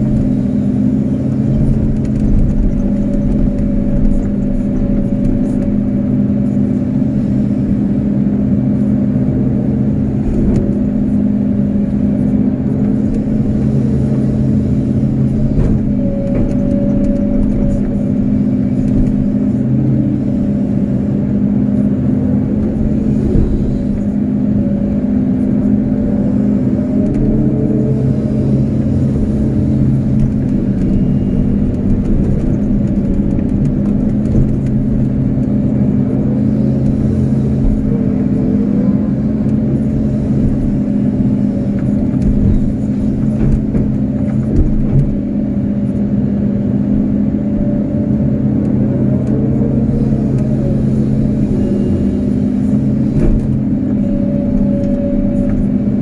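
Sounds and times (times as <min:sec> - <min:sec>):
excavator diesel engine: 0:00.0 - 0:56.0
hydraulic whine: 0:00.0 - 0:56.0.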